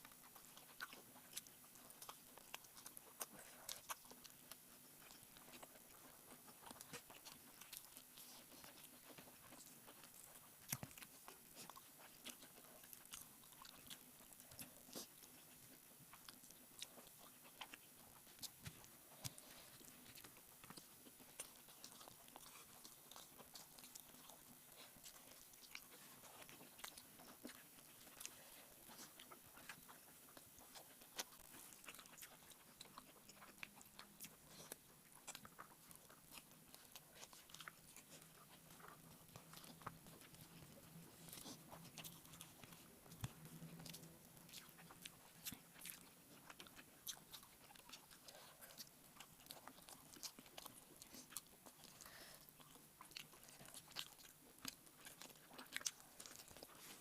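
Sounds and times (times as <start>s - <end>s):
person chewing with mouth clicks: 0.0s - 57.0s.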